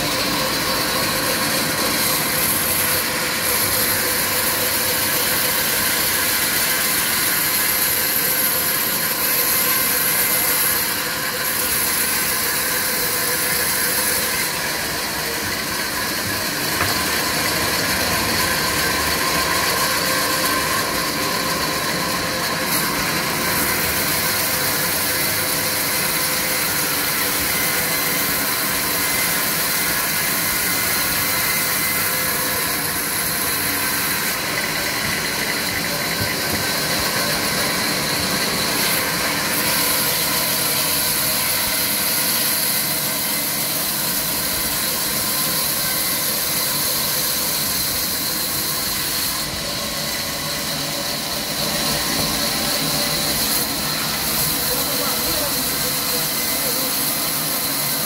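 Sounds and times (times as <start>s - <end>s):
sawmill saw running: 0.0s - 58.0s.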